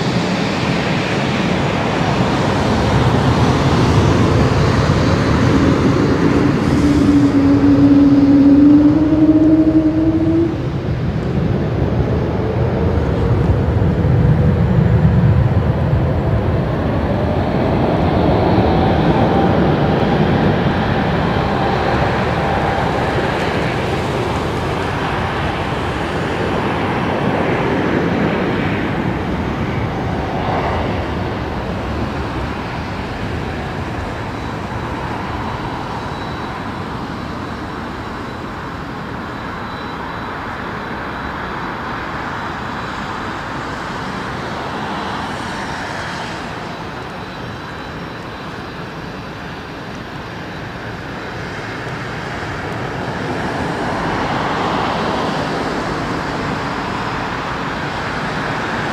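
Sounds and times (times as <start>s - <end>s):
jet airliner engine roar: 0.0s - 58.9s.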